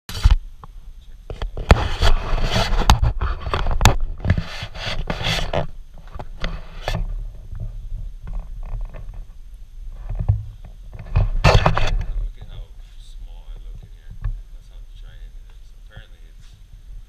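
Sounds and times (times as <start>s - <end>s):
scraping against microphone: 0.1s - 17.0s.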